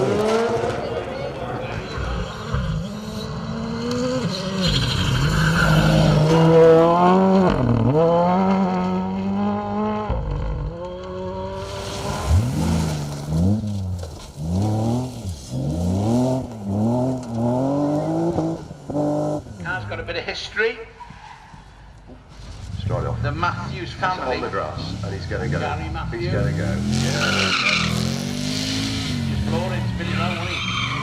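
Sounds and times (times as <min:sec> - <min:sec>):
rally car engine revving: 0:00.0 - 0:20.0, 0:22.5 - 0:31.0.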